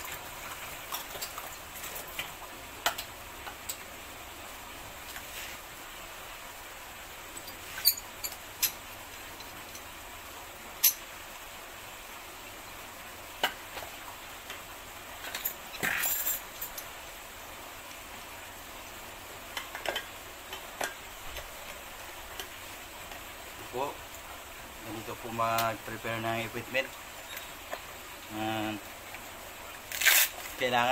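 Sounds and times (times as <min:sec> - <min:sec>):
steady background hiss: 0:00.0 - 0:30.9.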